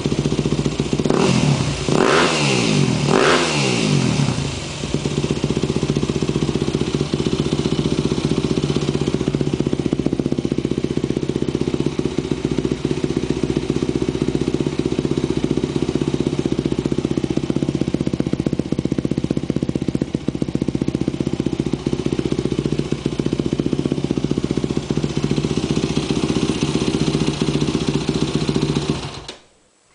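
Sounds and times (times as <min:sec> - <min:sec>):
loud motorcycle engine idling: 0:00.0 - 0:29.3.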